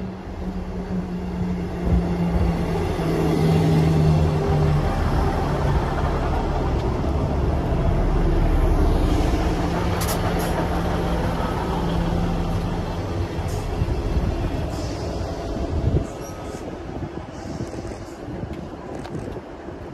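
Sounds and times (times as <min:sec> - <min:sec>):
train engine humming: 0:00.0 - 0:19.9
wheels rumbling on rails: 0:00.0 - 0:19.9.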